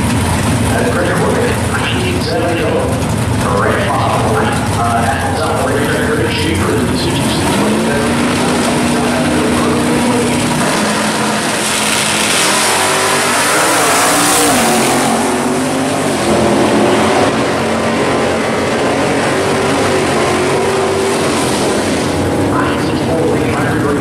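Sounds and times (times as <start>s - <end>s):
cars accelerating hard: 0.0s - 24.0s
drag car engines revving: 0.0s - 24.0s.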